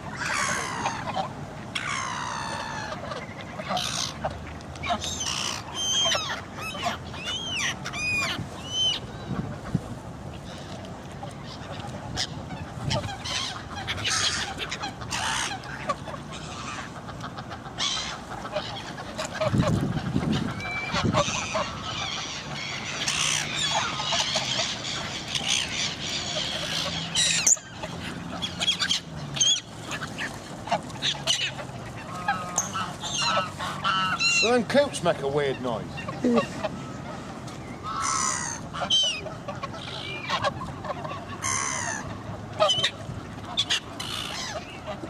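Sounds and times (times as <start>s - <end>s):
ducks quacking: 0.0s - 9.8s, 11.5s - 45.0s
geese honking: 0.0s - 9.8s, 12.1s - 45.0s.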